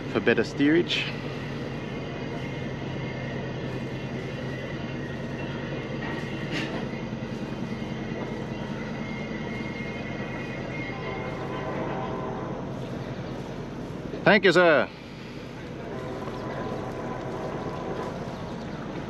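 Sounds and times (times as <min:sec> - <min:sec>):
boat engines droning: 0:00.0 - 0:19.0.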